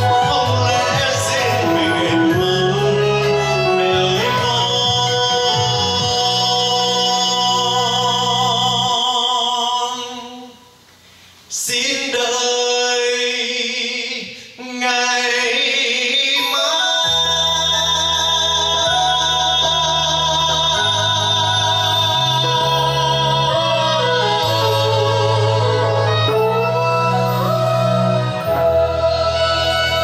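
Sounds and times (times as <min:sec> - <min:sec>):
man singing into microphone: 0:00.0 - 0:10.7, 0:11.5 - 0:30.0.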